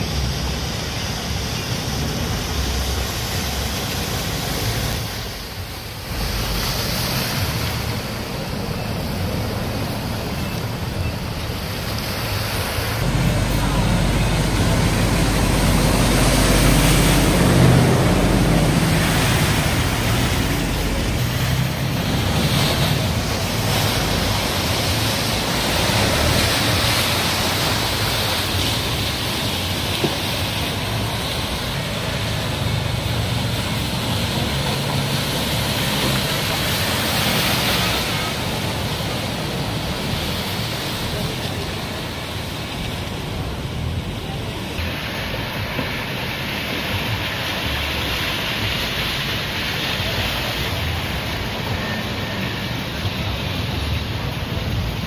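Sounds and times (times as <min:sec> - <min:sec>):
boat engine rumble: 0:00.0 - 0:55.0
water rushing from boat wake: 0:00.0 - 0:55.0.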